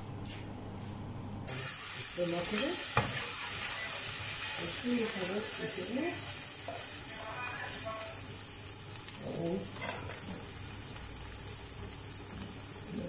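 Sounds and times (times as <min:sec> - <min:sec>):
garlic sizzling in a pan: 0:01.5 - 0:13.0.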